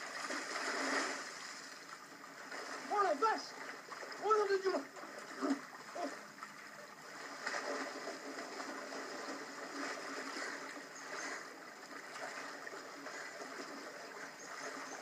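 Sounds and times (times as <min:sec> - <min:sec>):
water sloshing around swimmer: 0:00.0 - 0:15.0.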